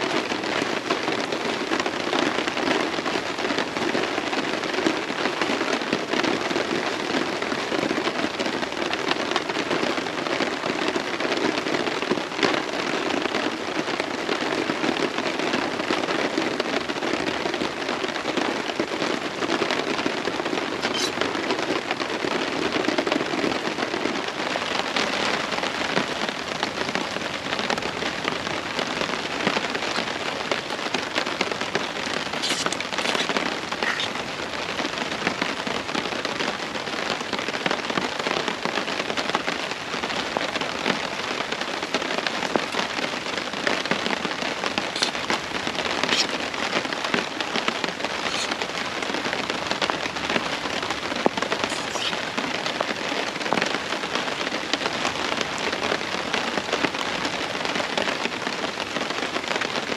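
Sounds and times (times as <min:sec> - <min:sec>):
heavy rain on a tarp: 0:00.0 - 0:59.9.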